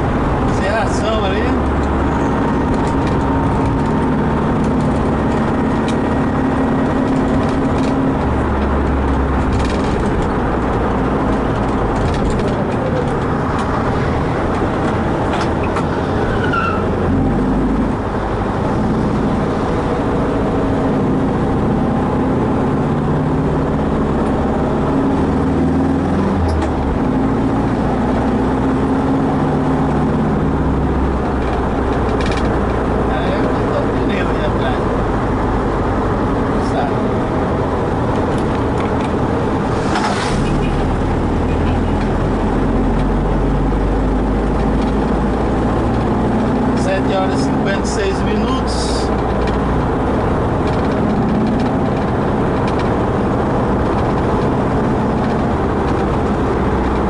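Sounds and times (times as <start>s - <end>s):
road and wind noise: 0.0s - 57.0s
vehicle engine hum: 0.0s - 57.0s.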